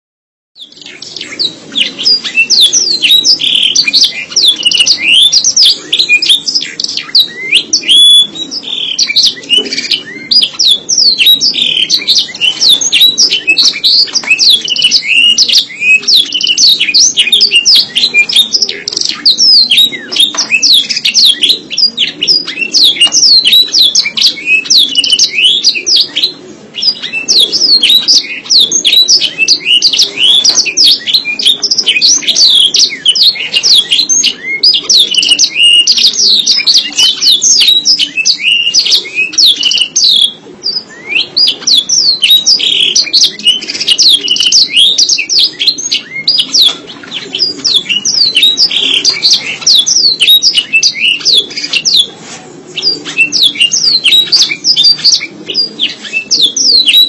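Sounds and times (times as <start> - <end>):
canary singing: 0.6 - 57.0.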